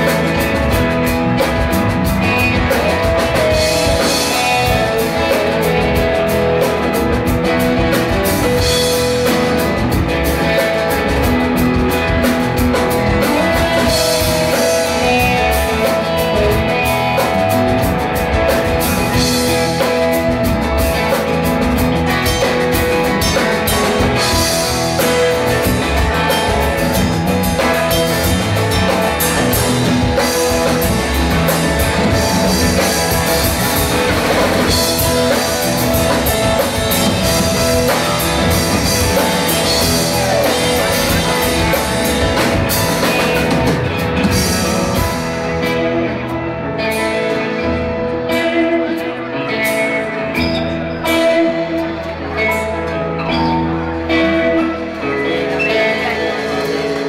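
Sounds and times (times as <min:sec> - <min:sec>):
drum kit: 0:00.0 - 0:57.0
electric guitars: 0:00.0 - 0:57.0
keyboard: 0:00.0 - 0:57.0.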